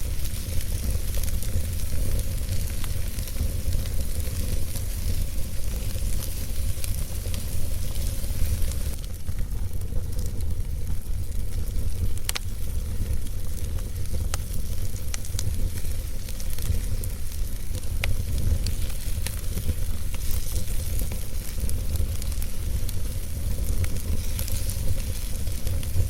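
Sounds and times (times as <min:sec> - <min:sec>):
burning logs crackling and popping: 0:00.0 - 0:26.0
wood fire rumbling and hissing: 0:00.0 - 0:26.0.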